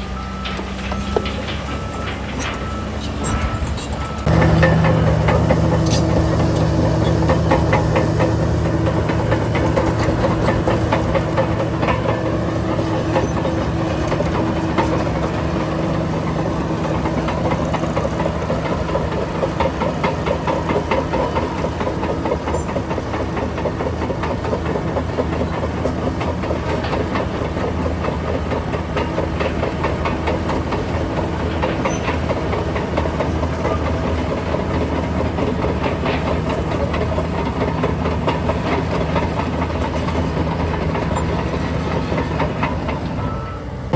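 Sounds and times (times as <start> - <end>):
diesel machinery running: 0.0 - 43.9.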